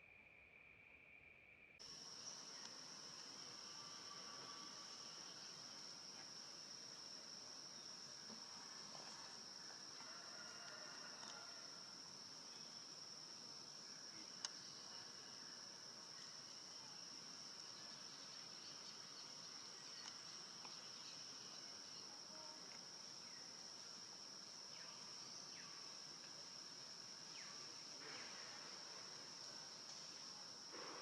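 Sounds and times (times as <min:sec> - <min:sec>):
insects chirring: 0:01.8 - 0:31.0.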